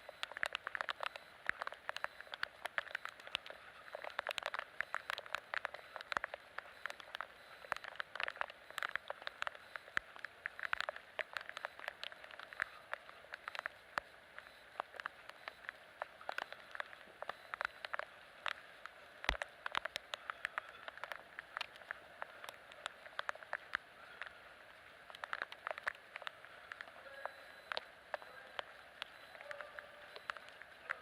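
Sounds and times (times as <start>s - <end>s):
rain pattering: 0.0s - 31.0s.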